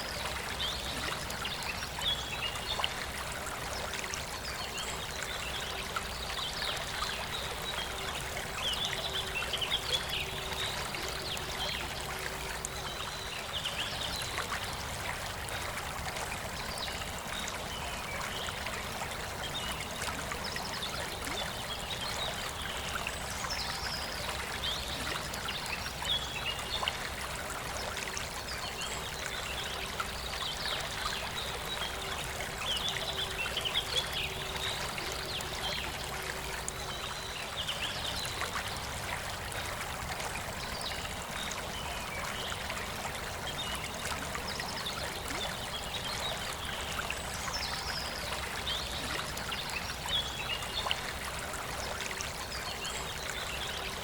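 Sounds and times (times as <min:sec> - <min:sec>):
forest river flowing: 0:00.0 - 0:54.0.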